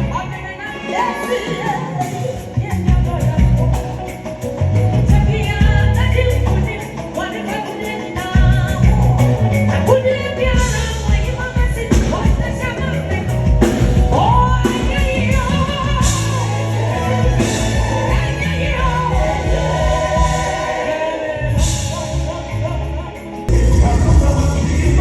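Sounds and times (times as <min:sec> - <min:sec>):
live band playing: 0:00.0 - 0:25.0
person singing through speakers: 0:00.0 - 0:25.0.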